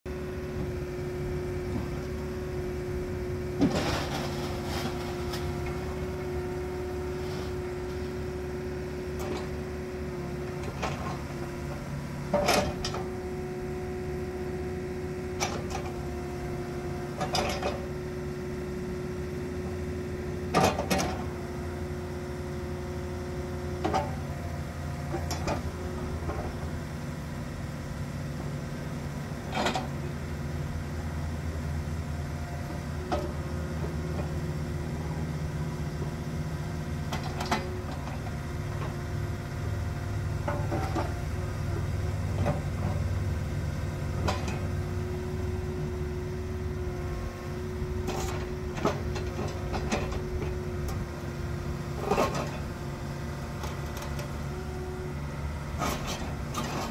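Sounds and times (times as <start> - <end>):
diesel engine running: 0.1 - 56.9.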